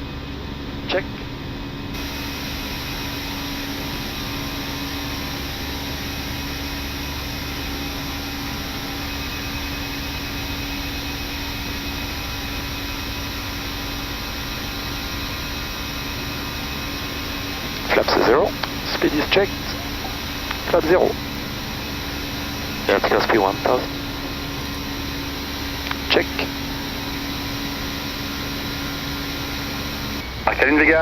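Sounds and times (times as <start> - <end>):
airflow and engine rush: 0.0 - 31.0
constant low hum: 0.0 - 31.0.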